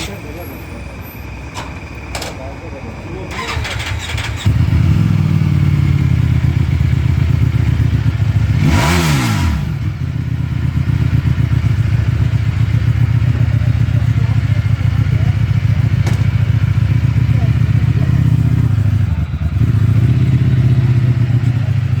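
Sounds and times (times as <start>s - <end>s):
motorcycle engine idling: 0.0s - 22.0s
engine revving: 1.5s - 22.0s.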